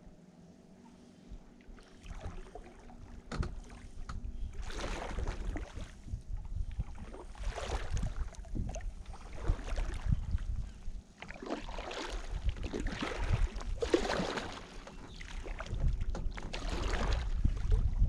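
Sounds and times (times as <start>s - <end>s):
wind rumble on microphone: 1.2s - 18.0s
paddle strokes splashing in water: 1.6s - 18.0s.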